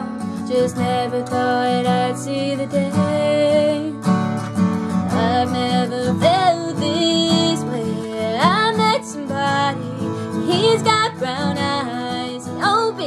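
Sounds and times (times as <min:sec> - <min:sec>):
acoustic guitar chords: 0:00.0 - 0:13.0
woman singing country song: 0:00.0 - 0:13.0.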